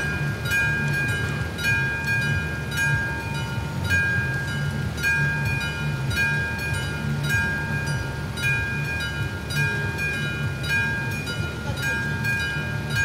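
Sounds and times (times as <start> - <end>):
warning bell ringing: 0.0 - 13.0.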